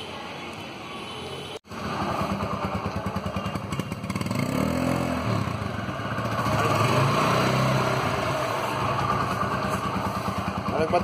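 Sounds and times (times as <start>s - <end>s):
motorcycle engine idling and revving: 1.6s - 11.0s.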